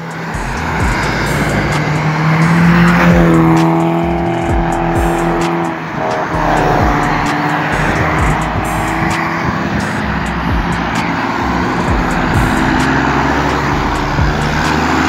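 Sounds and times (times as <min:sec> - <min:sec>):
car engine drone passing: 0:00.0 - 0:15.0
tyre and road noise: 0:00.0 - 0:15.0.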